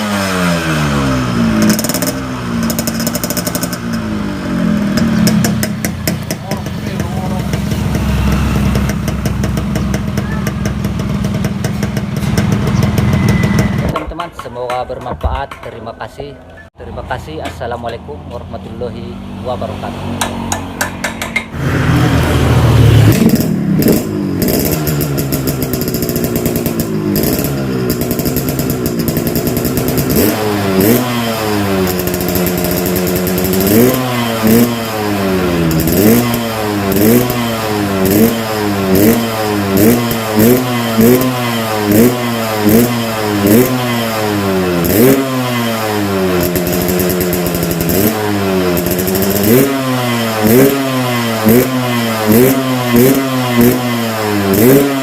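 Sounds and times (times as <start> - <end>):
motorcycle engine revving: 0.0 - 14.1, 18.9 - 55.0.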